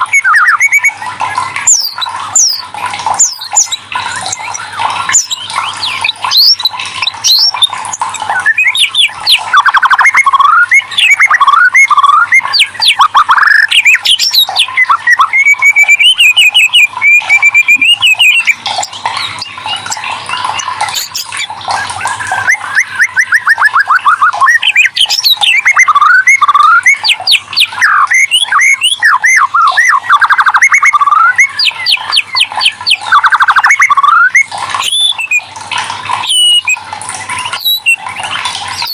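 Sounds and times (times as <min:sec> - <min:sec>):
songbird singing whistles and trills: 0:00.0 - 0:35.5, 0:36.1 - 0:38.9.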